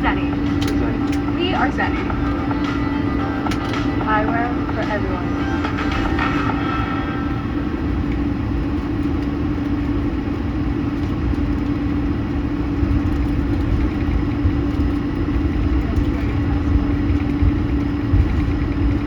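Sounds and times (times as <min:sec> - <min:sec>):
airliner cabin engine drone: 0:00.0 - 0:19.0.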